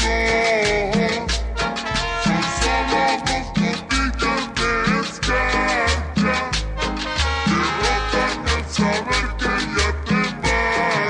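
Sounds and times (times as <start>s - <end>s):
latin dance music: 0.0s - 11.0s.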